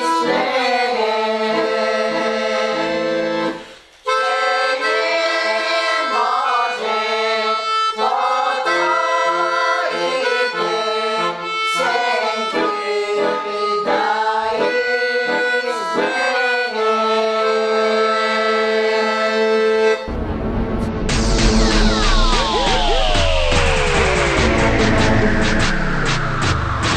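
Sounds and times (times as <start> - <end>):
background instrumental music: 0.0 - 26.9.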